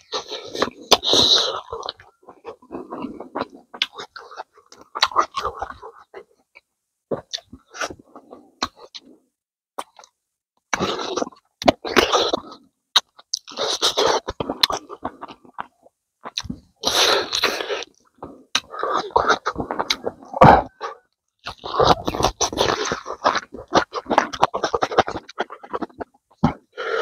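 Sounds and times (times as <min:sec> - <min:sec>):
man chewing with mouth open: 0:00.0 - 0:09.2, 0:09.8 - 0:27.0.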